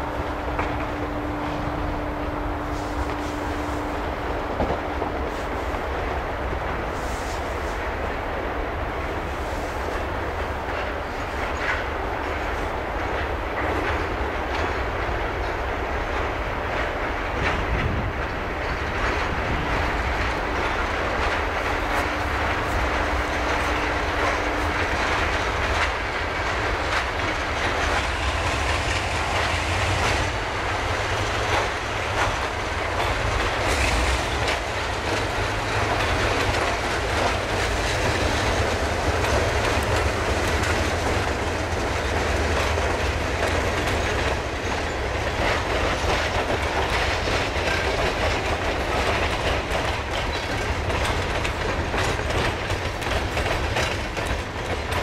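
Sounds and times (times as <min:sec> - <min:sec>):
diesel locomotive engine: 0:00.0 - 0:55.0
wheels clicking over rail joints: 0:00.0 - 0:55.0.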